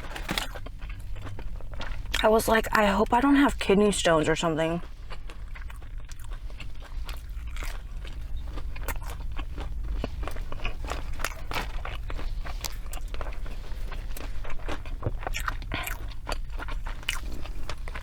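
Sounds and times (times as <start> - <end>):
chewing crunchy food: 0.0 - 18.0.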